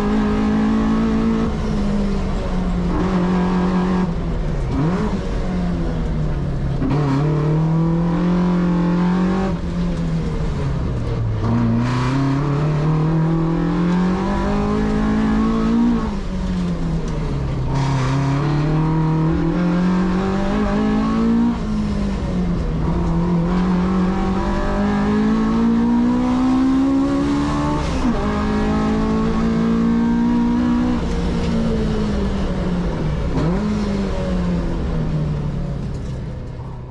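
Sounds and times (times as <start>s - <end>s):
car engine revving through gears: 0.0s - 36.2s.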